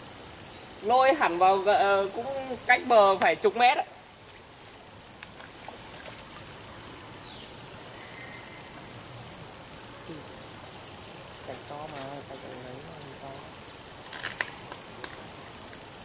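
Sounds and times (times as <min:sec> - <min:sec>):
insects chorus drone: 0:00.0 - 0:16.0.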